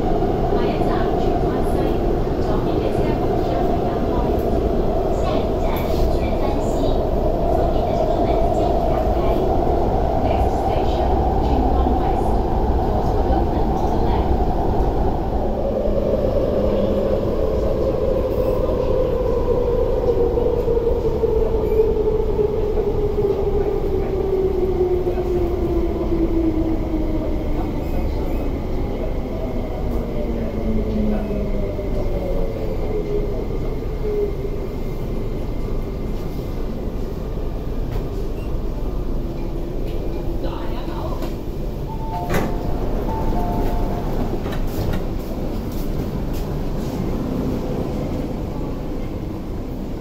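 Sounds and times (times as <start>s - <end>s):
wheels rumbling on rail: 0.0s - 50.0s.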